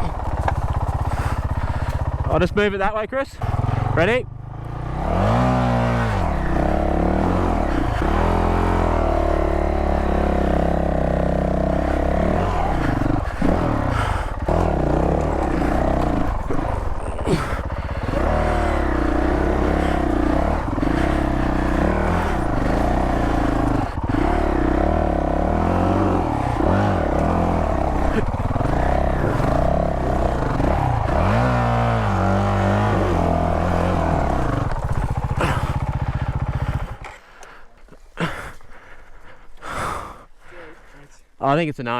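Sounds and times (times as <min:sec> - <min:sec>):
motorcycle engine revving hard: 0:00.0 - 0:37.2.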